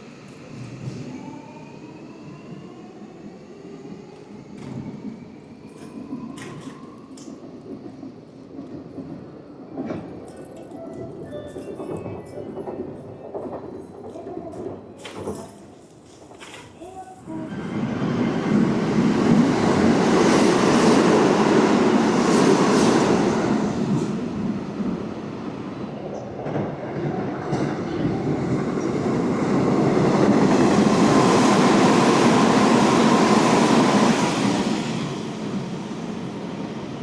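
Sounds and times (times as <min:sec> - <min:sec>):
train wheels rumbling on rails: 0:00.1 - 0:37.0.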